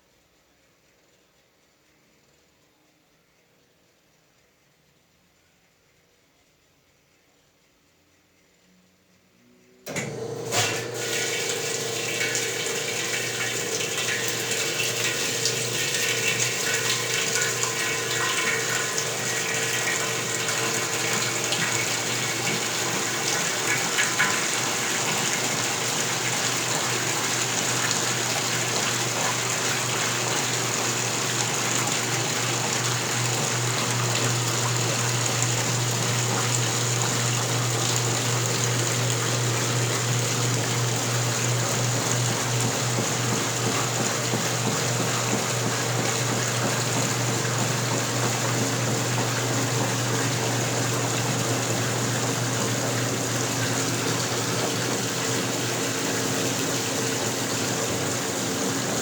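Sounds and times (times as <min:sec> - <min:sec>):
water rushing through washing machine: 0:09.8 - 0:59.0.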